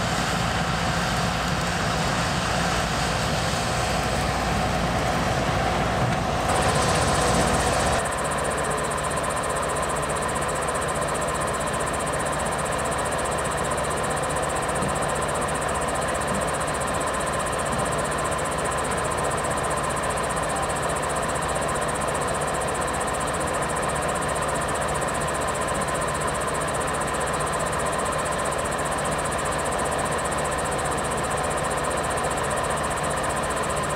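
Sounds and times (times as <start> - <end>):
combine harvester drone: 0.0 - 33.9.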